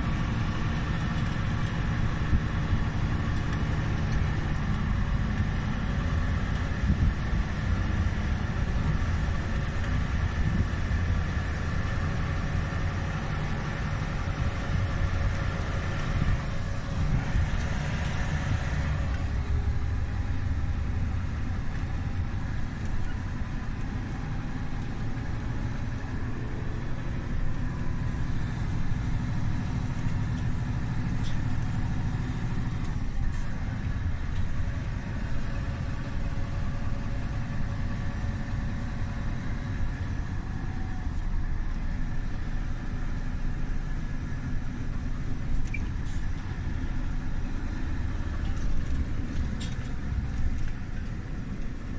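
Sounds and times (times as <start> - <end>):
truck diesel engine running: 0.0 - 51.9.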